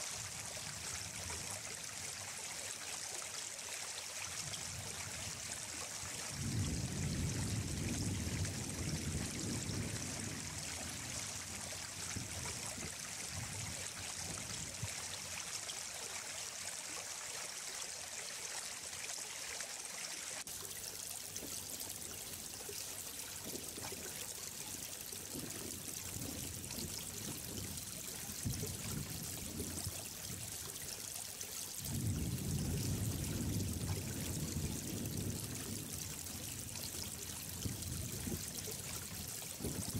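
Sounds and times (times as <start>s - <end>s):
water flowing and trickling: 0.0s - 39.9s
water rushing: 0.0s - 39.9s.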